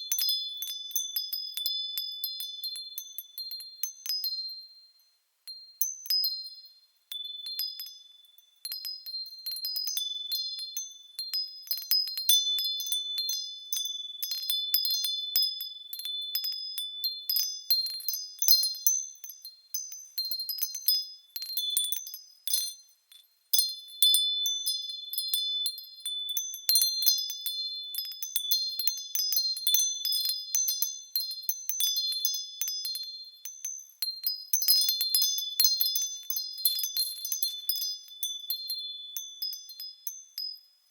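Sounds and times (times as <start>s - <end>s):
wind chimes ringing: 0.0s - 40.9s.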